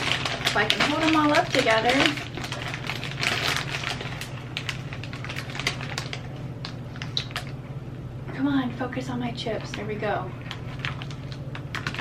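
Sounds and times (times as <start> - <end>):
plastic bags crinkling: 0.0 - 7.6, 9.4 - 12.0
low hum: 0.0 - 12.0.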